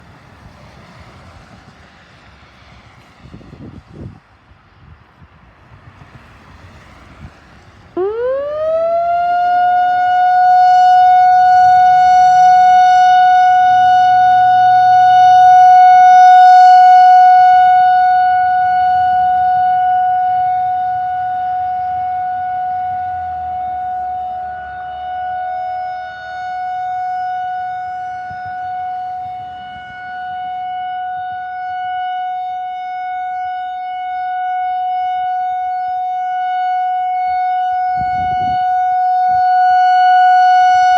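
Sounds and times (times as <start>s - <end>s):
outdoor warning siren: 0.0s - 40.9s.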